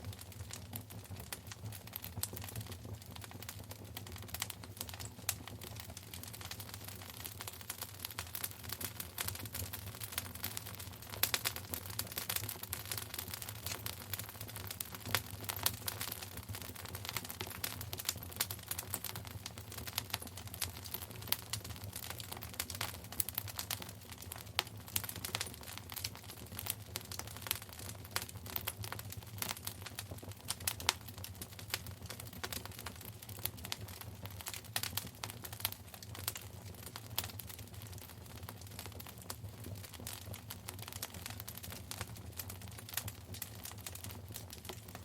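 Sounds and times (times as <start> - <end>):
low rumble of flames: 0.0 - 45.0
wood fire crackling: 0.0 - 45.0.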